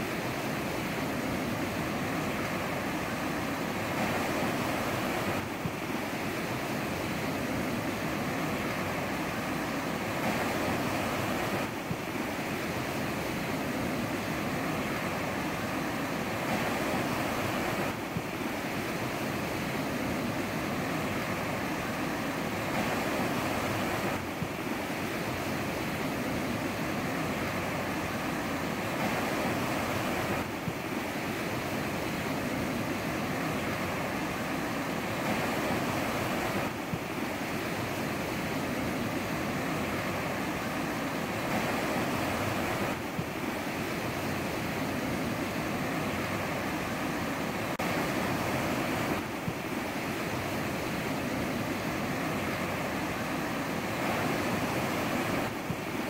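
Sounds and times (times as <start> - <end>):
ocean surf washing ashore: 0.0 - 56.0.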